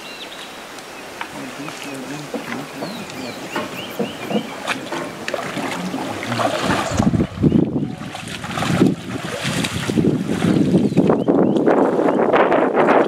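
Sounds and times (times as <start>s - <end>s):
wind buffeting microphone: 1.4s - 13.0s.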